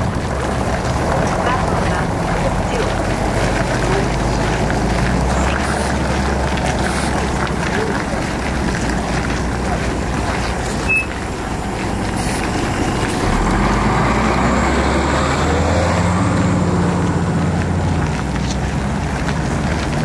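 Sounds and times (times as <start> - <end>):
bus engine running: 0.0 - 20.0
road noise: 0.0 - 20.0.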